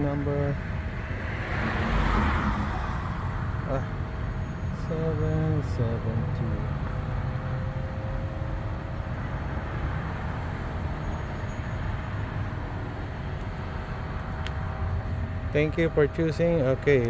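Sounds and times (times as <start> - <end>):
charger fans whirring hum: 0.0 - 17.0.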